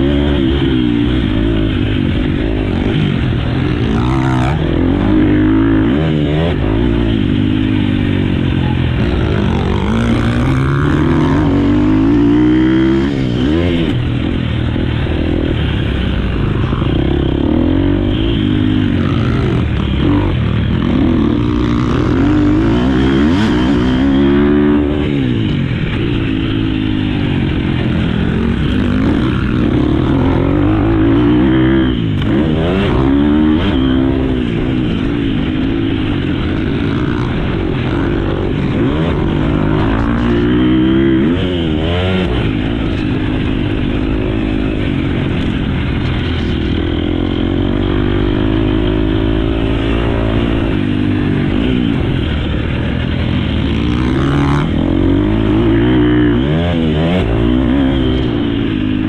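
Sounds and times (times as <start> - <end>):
motocross engine revving: 0.0 - 59.0.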